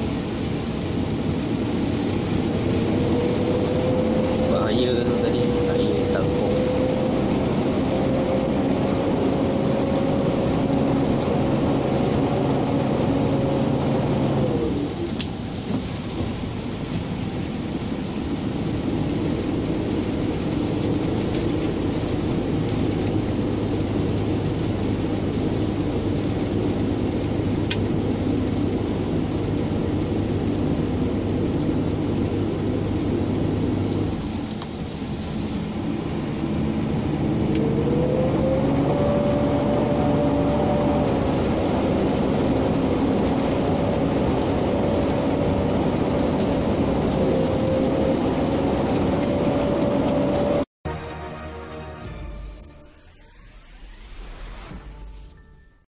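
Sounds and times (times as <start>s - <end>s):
truck diesel engine droning: 0.0s - 15.6s, 18.2s - 53.4s
road noise: 0.0s - 55.8s
engine whine: 0.0s - 55.9s.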